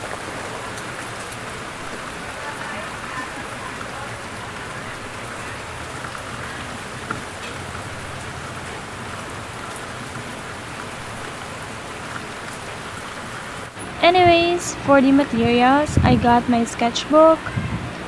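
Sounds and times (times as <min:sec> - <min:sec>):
sharp water drips: 0:00.0 - 0:18.0
steady rain falling: 0:00.0 - 0:18.0.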